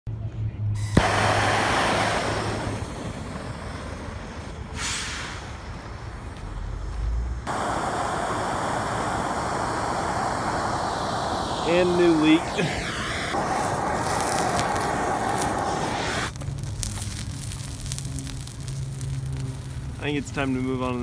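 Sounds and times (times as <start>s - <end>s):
gas torch flame hissing: 0.8s - 21.0s.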